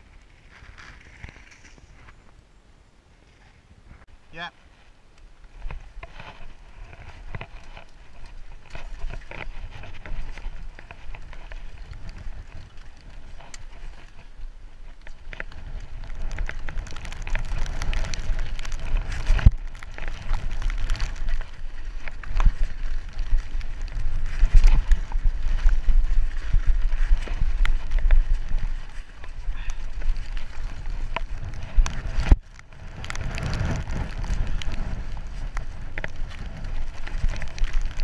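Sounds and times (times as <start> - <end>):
tyres rolling over mud and stones: 0.0 - 2.2, 4.6 - 38.0
bike rattling and knocking: 5.5 - 38.0.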